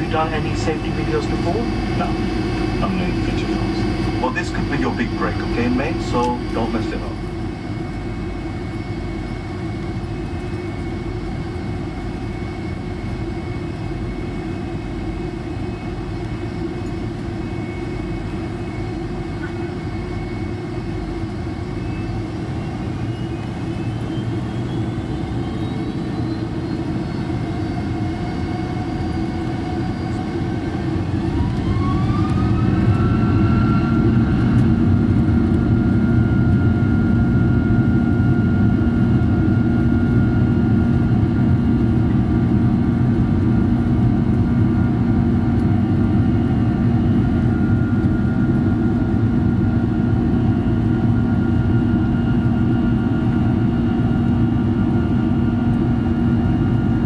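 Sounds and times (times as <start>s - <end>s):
deep engine rumble: 0.0s - 57.0s
jet engine whine: 0.0s - 57.0s.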